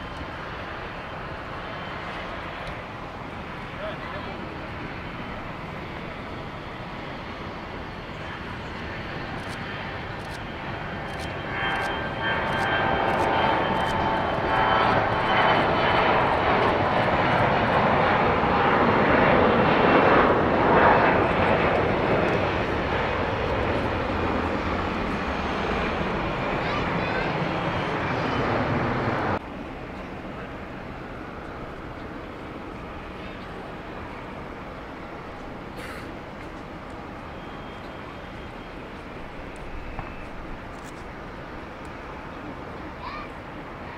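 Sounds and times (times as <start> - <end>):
jet engines roaring with whine: 0.0 - 43.9.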